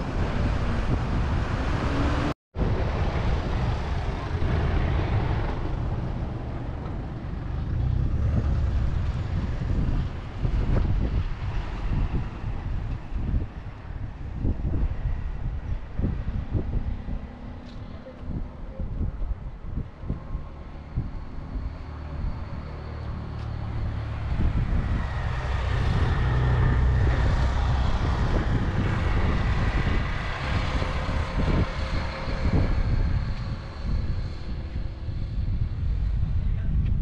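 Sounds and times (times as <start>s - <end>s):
vehicle rumble: 0.0s - 37.0s
wind buffeting microphone: 0.0s - 37.0s.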